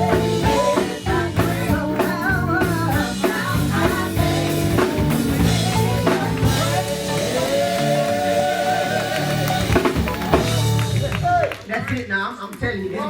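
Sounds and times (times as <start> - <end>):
electric guitar: 0.0 - 11.4
bass: 0.0 - 12.9
drum kit steady beat: 0.0 - 12.9.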